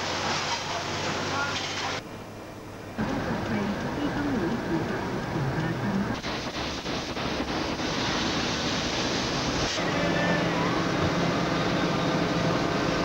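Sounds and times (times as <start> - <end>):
dishwashing machine spraying water: 0.0 - 2.0, 3.0 - 13.0.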